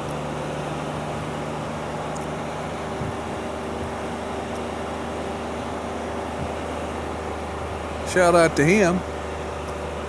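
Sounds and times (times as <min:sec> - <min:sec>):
road and wind noise: 0:00.0 - 0:10.0
vehicle engine running: 0:00.0 - 0:10.0.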